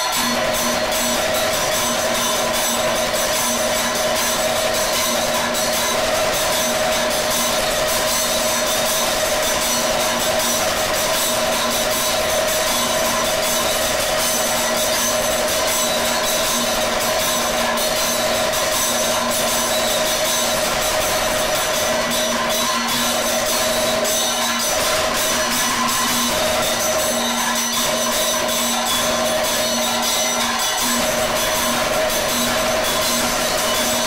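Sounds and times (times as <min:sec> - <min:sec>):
drum played with sticks: 0:00.0 - 0:34.0
hand cymbals clashing: 0:00.0 - 0:34.0
steady held tone: 0:00.0 - 0:34.0.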